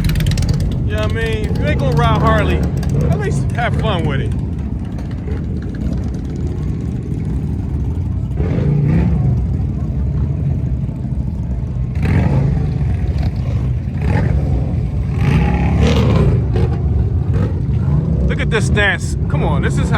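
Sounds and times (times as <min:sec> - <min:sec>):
engines rumbling: 0:00.0 - 0:19.9.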